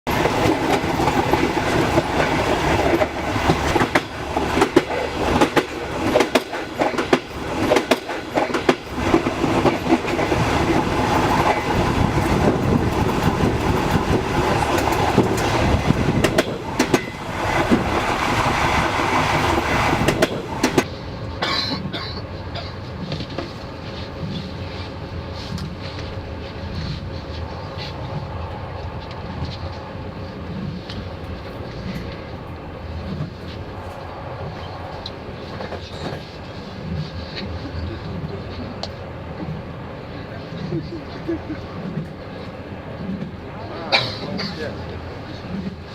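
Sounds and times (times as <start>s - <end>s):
train wheels clattering on rails: 0.1s - 39.7s.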